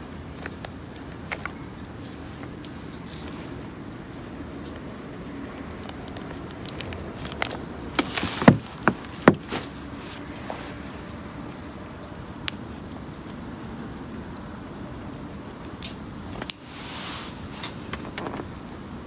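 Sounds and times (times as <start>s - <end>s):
wood fire crackling: 0.0s - 19.0s
fire pops and snaps: 0.2s - 3.8s, 4.6s - 14.1s, 15.6s - 19.0s.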